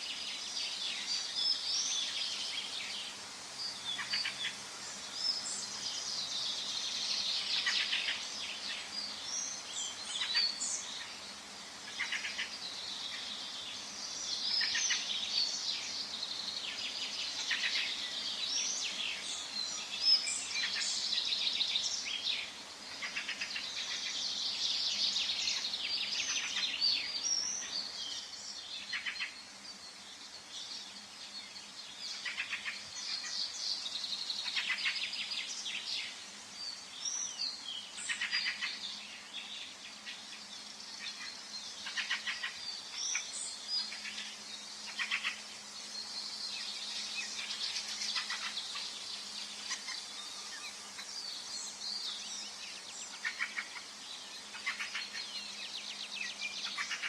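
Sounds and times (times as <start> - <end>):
birds calling and trilling: 0.0 - 57.0
faint background hiss: 0.0 - 57.0.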